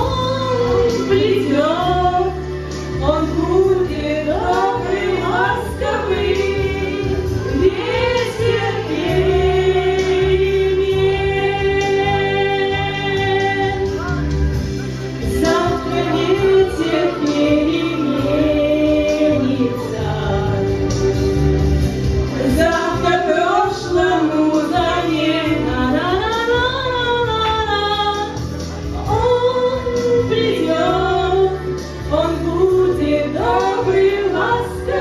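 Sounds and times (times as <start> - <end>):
woman singing: 0.0 - 14.4, 15.2 - 21.5, 22.4 - 35.0.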